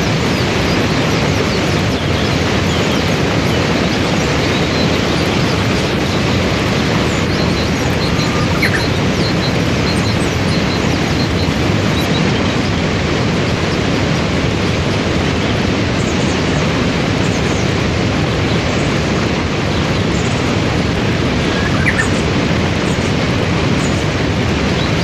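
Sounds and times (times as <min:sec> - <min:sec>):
waterfall and rapids rushing: 0:00.0 - 0:25.0.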